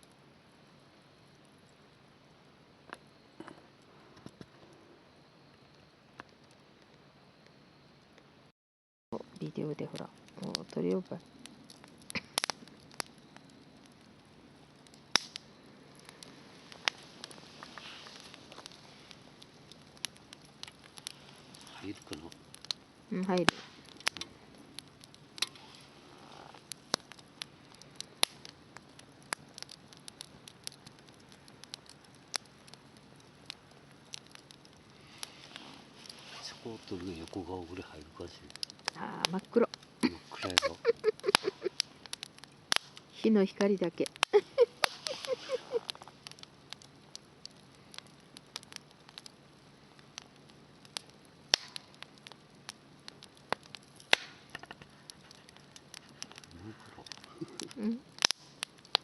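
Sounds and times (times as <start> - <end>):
faint steady hiss: 0.0 - 8.5, 9.2 - 59.0
wood fire crackling and popping: 0.0 - 8.5, 9.2 - 59.0.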